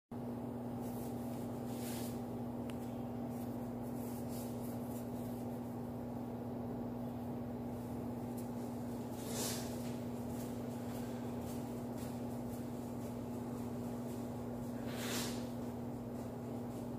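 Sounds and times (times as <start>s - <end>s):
low mechanical hum: 0.1s - 16.9s.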